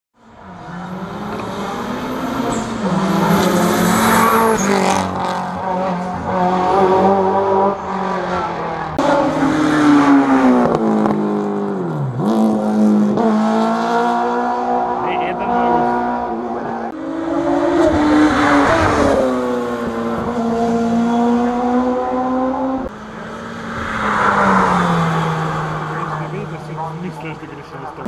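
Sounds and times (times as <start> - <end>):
rally car engine revving: 0.2 - 28.0.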